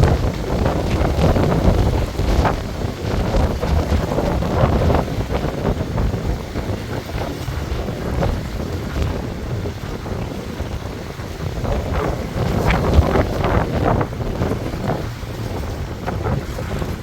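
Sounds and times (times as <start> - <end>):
choppy water splashing: 0.0 - 17.0
gusty wind buffeting microphone: 0.0 - 17.0.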